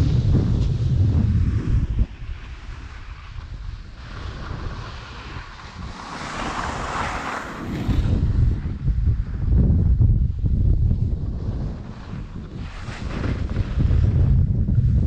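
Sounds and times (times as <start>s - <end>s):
snowboard scraping over snow: 0.0s - 15.0s
wind buffeting microphone: 0.0s - 15.0s.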